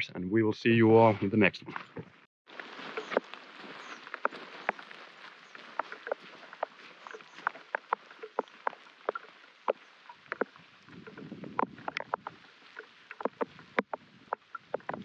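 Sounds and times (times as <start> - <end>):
wind rustle: 1.7 - 15.0
raindrops dripping: 2.5 - 15.0.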